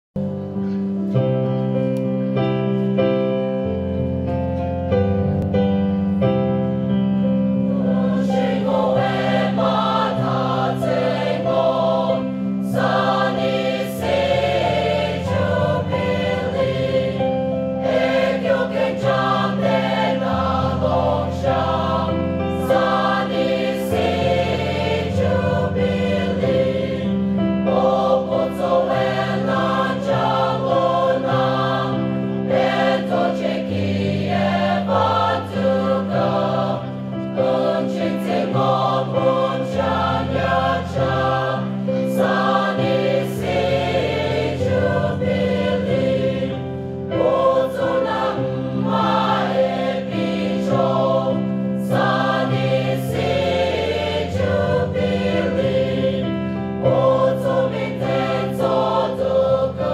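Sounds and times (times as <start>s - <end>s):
choir singing a hymn: 0.2s - 59.9s
keyboard chords: 0.2s - 59.9s.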